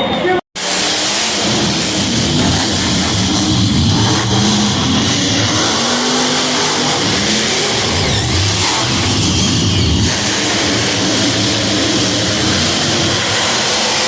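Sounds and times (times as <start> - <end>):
truck engine revving: 0.6 - 14.0.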